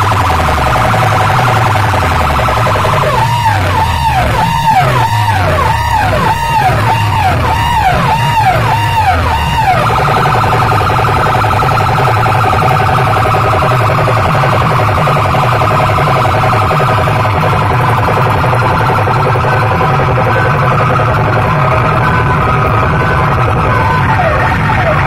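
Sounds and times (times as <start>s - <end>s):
heavy bass: 0.0s - 25.0s
rapidly pulsing electronic buzz: 0.0s - 25.0s
warbling siren-like electronic effect: 0.0s - 25.0s.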